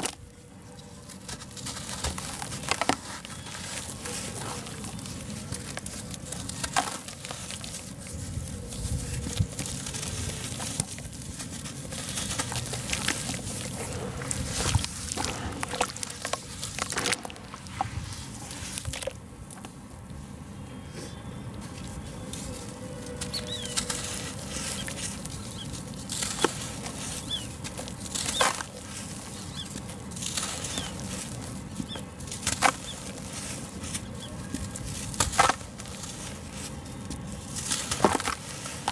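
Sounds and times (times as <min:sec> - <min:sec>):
blocks crumbling and crackling: 0:01.1 - 0:19.7, 0:23.4 - 0:38.9.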